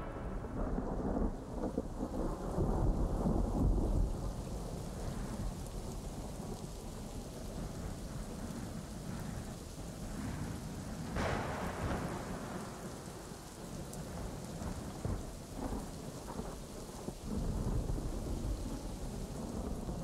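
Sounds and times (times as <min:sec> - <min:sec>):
rolling thunder: 0:00.0 - 0:06.6, 0:07.6 - 0:20.0
steady rain: 0:00.0 - 0:20.0.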